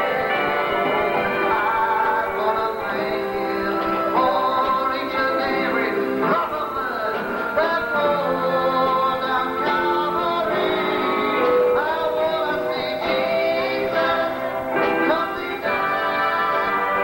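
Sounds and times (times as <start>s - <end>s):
gospel group singing in harmony: 0.0s - 17.0s
instrumental accompaniment: 0.0s - 17.0s.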